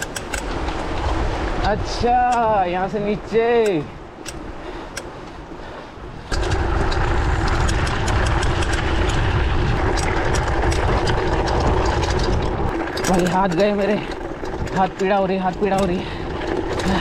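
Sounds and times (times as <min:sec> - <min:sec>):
mountain bike rattling and rumbling: 0:00.0 - 0:05.2, 0:06.0 - 0:17.0.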